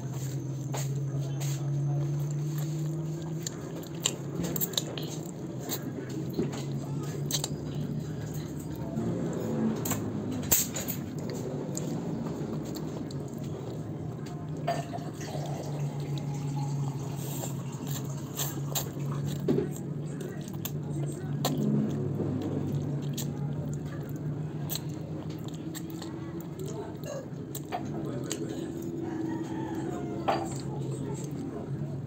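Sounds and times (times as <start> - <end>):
child slurping and chewing noodles: 0.0 - 31.8.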